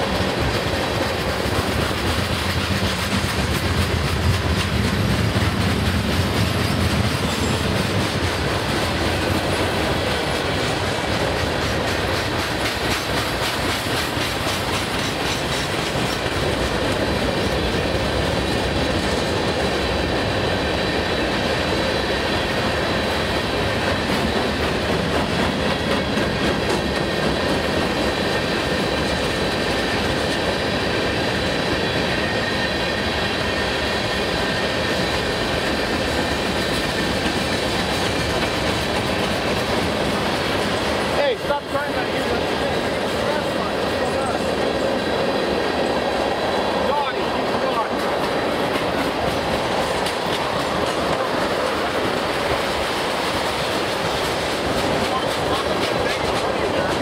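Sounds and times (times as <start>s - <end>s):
train wheels clickety-clack: 0.0s - 57.0s.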